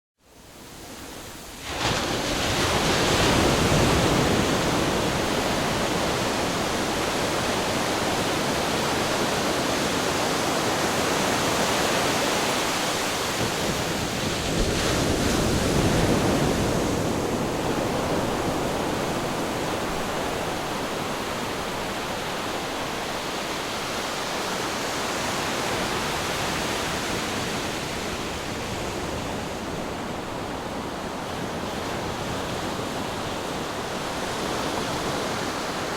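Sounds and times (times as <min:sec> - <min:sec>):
ocean waves breaking on shore: 0:00.4 - 0:35.9.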